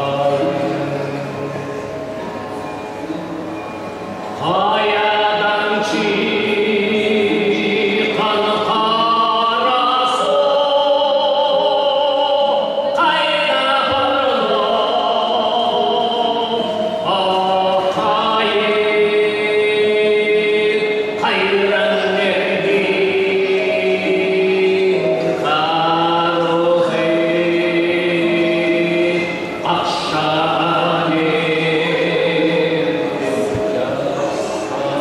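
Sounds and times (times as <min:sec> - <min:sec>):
man chant-like singing: 0:00.0 - 0:01.6, 0:04.4 - 0:35.0.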